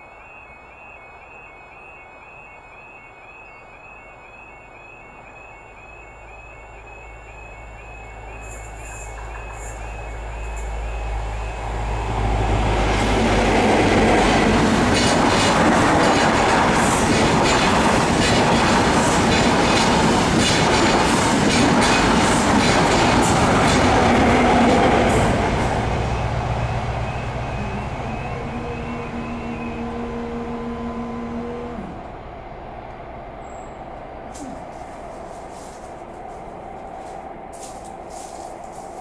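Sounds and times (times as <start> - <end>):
level crossing warning alarm: 0.0 - 32.2
train passing at speed: 0.0 - 39.0.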